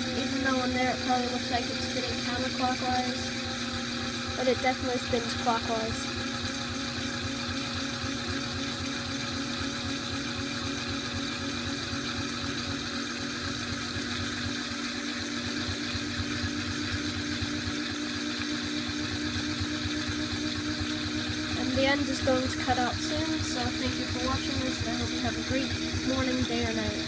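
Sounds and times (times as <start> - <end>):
washing machine drum spinning: 0.0 - 27.0.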